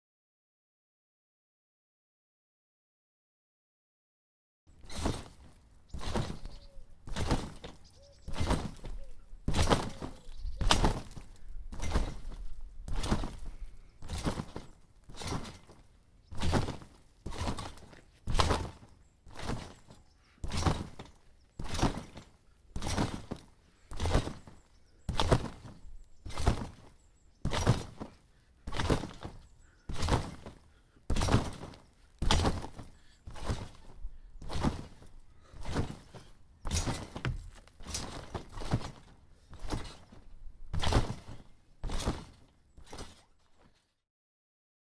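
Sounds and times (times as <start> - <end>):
trampoline bounces: 4.7 - 43.9.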